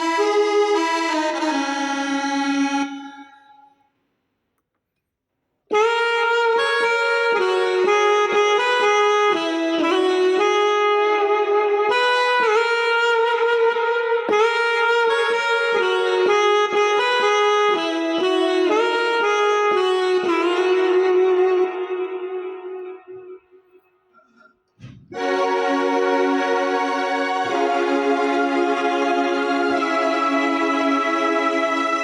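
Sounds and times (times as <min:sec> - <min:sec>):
keyboard saxophone melody: 0:00.0 - 0:03.8, 0:05.7 - 0:24.4, 0:25.0 - 0:32.0.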